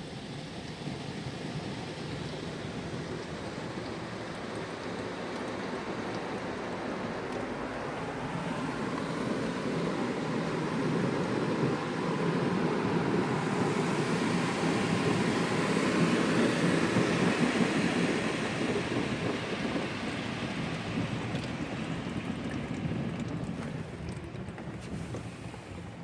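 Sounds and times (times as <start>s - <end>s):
car wash spraying water: 0.0s - 26.0s.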